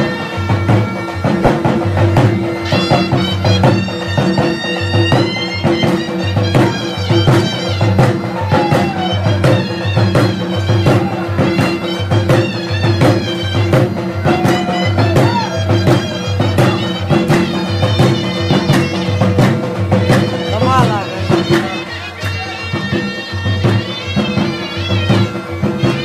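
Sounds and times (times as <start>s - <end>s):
drum beating rhythm: 0.0s - 26.0s
reedy wind instrument melody: 0.0s - 26.0s.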